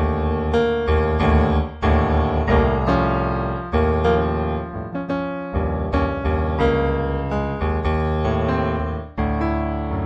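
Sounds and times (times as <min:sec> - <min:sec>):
solo piano music: 0:00.0 - 0:10.0.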